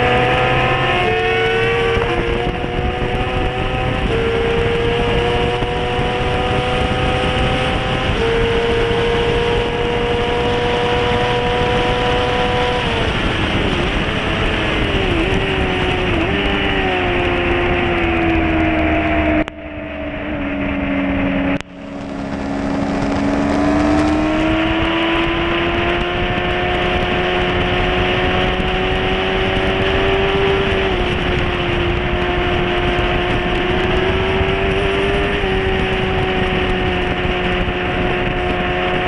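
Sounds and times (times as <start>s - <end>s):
motorcycle engine running hard: 0.0s - 39.0s
wind rushing: 0.0s - 39.0s.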